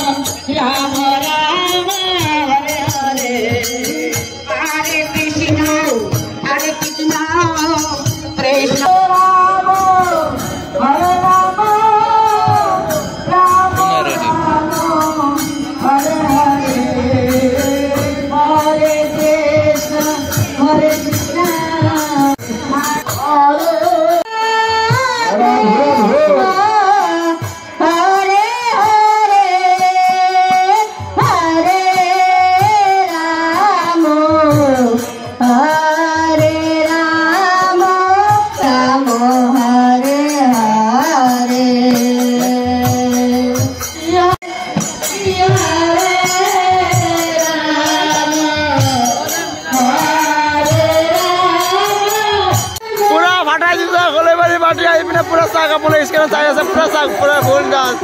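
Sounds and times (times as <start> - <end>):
group singing into microphones: 0.0 - 58.0
instrumental accompaniment: 0.0 - 58.0.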